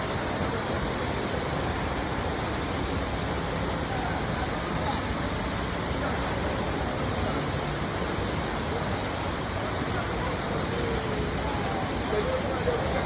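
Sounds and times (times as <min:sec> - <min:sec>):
faint voices: 0:00.0 - 0:13.0
waterfall rushing: 0:00.0 - 0:13.0.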